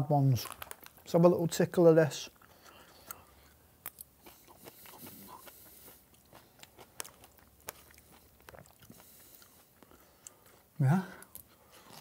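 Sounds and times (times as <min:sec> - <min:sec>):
quiet chewing: 0:02.3 - 0:12.0.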